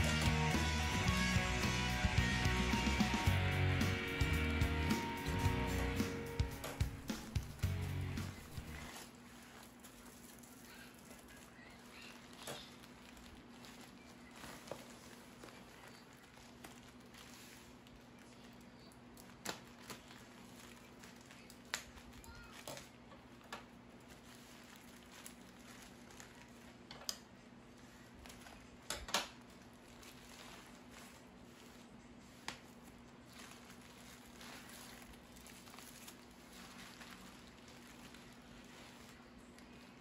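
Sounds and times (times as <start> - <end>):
bubble wrap crinkling: 0.0 - 40.0.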